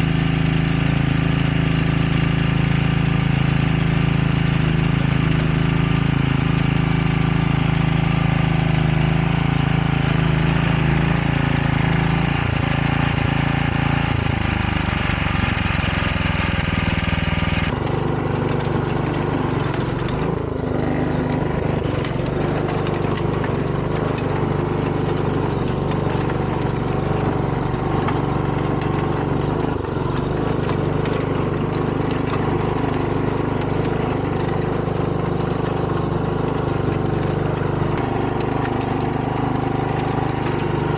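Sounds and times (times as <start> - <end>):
rotary tiller churning soil: 0.0 - 40.9
tractor engine running under load: 0.0 - 40.9.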